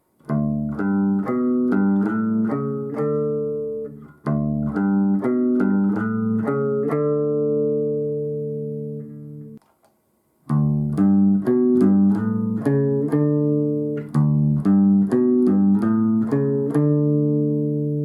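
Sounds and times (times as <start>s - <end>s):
electric bass guitar plucked notes: 0.2s - 9.6s, 10.5s - 18.0s.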